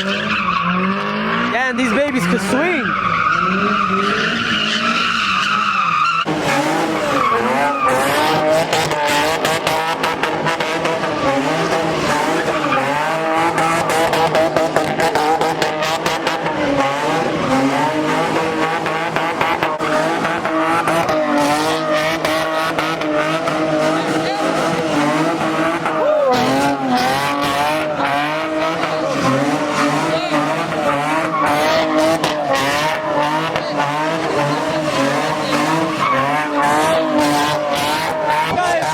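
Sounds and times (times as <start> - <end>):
car engine revving: 0.0 - 38.9
tires squealing: 0.0 - 38.9.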